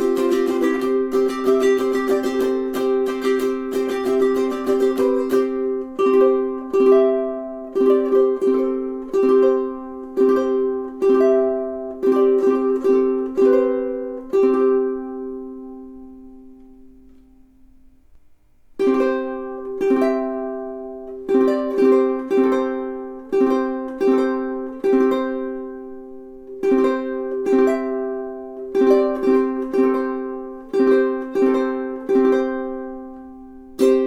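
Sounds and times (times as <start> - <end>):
ukulele strumming: 0.0 - 34.0.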